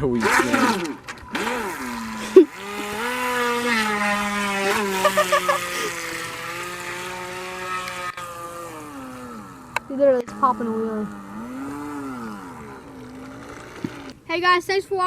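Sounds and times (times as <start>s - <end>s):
toy boat motor whining: 0.0s - 14.4s.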